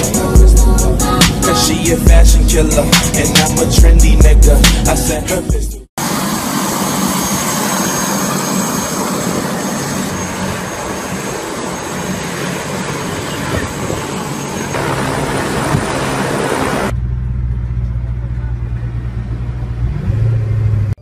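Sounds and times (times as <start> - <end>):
engine and wind roar: 0.0 - 21.0.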